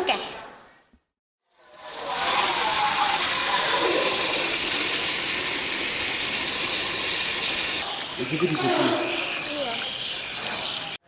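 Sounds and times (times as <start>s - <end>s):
food being rinsed: 1.5s - 11.0s
tap water running: 1.5s - 11.0s.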